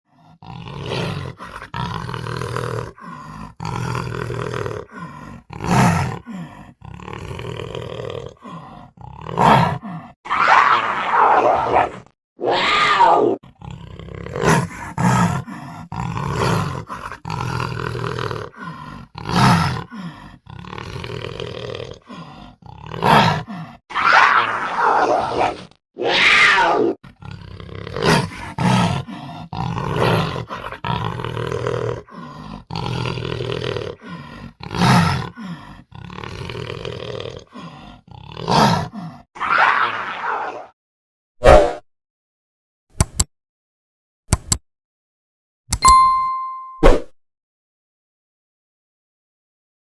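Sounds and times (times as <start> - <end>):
panther growling and roaring: 0.0 - 40.8.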